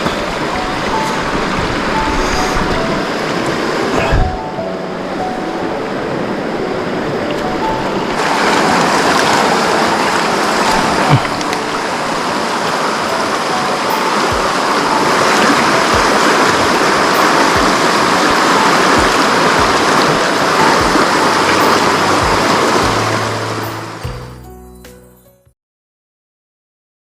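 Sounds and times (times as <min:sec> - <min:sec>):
river water rushing: 0:00.0 - 0:24.4.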